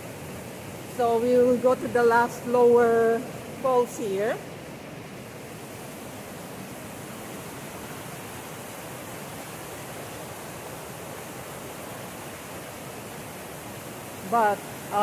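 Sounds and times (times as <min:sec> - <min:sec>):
river rapids rushing: 0:00.0 - 0:15.0.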